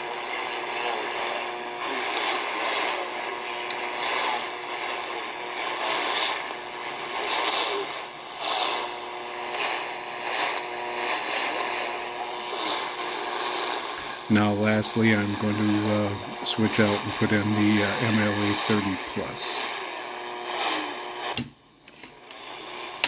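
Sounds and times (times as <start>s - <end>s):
radio broadcast through speaker: 0.0s - 23.0s
radio static hiss: 0.0s - 23.0s.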